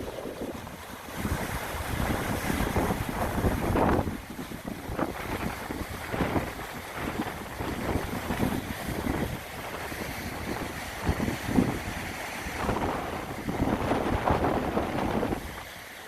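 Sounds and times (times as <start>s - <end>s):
wind gusting across microphone: 0.0s - 15.8s
sea waves washing onto shore: 0.0s - 16.0s.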